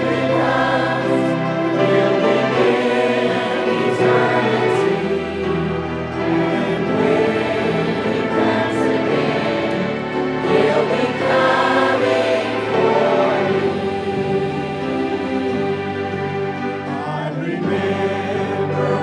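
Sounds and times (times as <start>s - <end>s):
church choir singing gospel: 0.0s - 19.0s.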